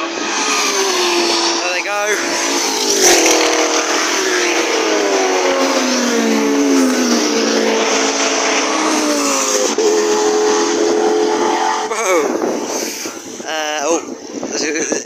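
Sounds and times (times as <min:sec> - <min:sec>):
race car engines passing: 0:00.0 - 0:14.9.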